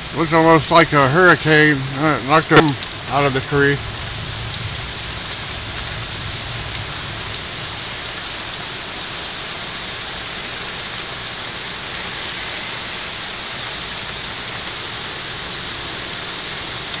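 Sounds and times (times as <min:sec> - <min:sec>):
heavy rain pouring: 0:00.0 - 0:17.0
sharp raindrop hits: 0:00.0 - 0:17.0.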